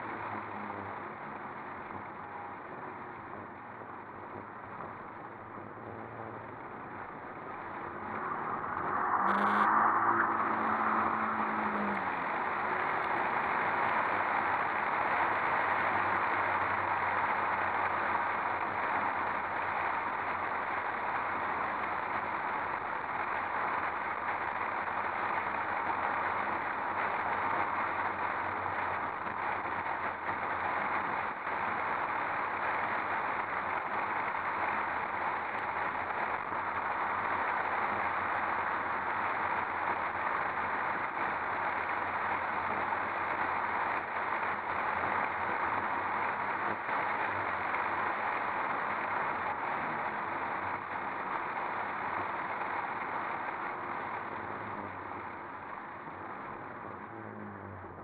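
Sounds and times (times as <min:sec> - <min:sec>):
road noise on a damp road: 0:00.0 - 0:58.0.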